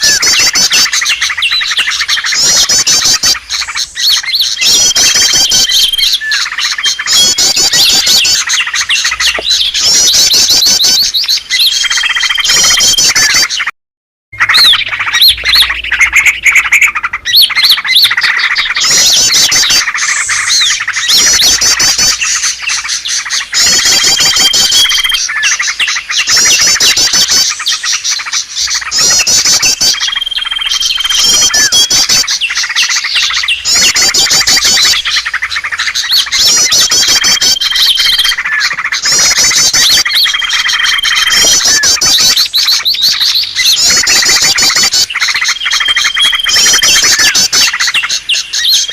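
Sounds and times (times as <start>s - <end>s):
small birds chirping chorus: 0.0s - 13.8s, 14.4s - 48.9s.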